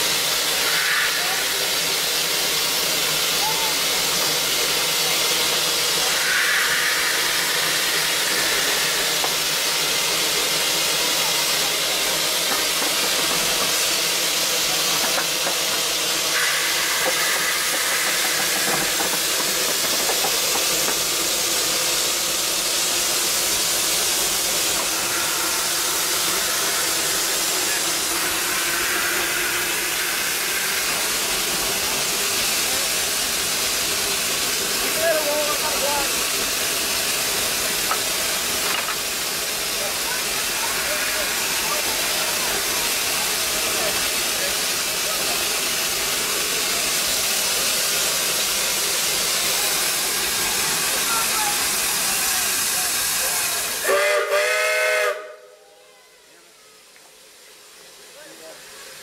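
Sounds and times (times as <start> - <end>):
steam hissing: 0.0 - 55.6, 56.6 - 59.0.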